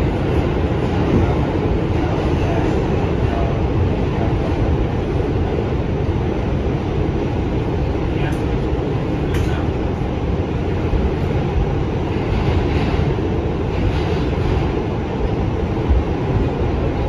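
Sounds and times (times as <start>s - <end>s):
subway car rumbling: 0.0s - 17.0s.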